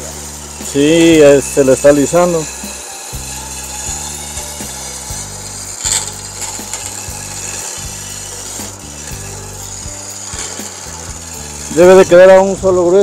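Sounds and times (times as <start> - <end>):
chisel scraping spinning wood: 0.0 - 13.0
wood lathe running: 0.0 - 13.0.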